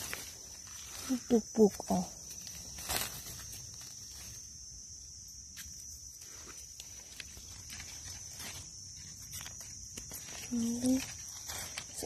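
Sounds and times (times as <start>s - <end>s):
high-pitched insect drone: 0.0s - 12.0s
rustles of dry leaf litter: 0.0s - 12.0s.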